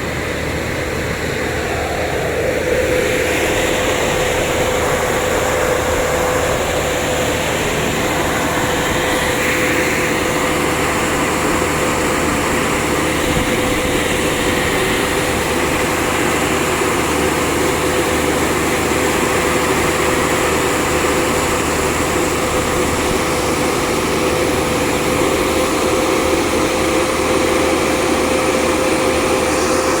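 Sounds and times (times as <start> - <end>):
drilling rig machine drone: 0.0 - 30.0.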